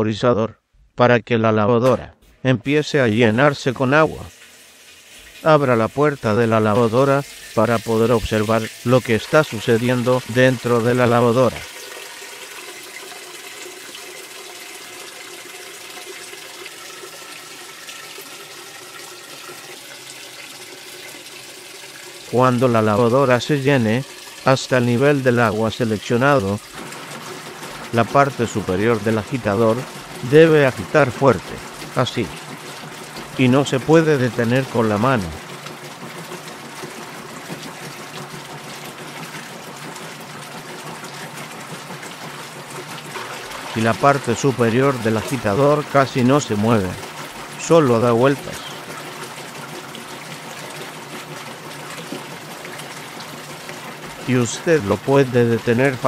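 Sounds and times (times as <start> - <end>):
water pouring into washer tub: 2.7 - 56.0.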